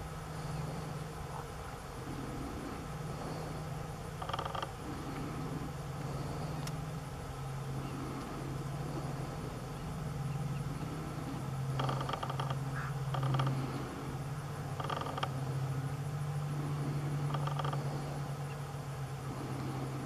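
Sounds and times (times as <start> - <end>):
rapid chattering bird calls: 0.0 - 6.9, 7.5 - 20.0
low engine hum: 0.0 - 20.0.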